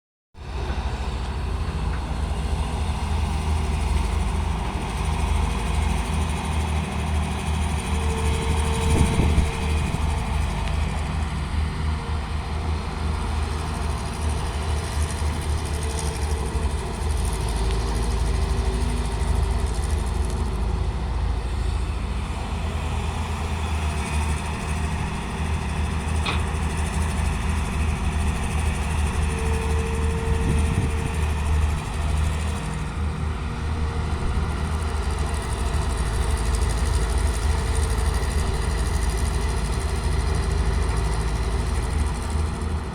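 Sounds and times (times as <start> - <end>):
excavator engine running: 0.4 - 42.9.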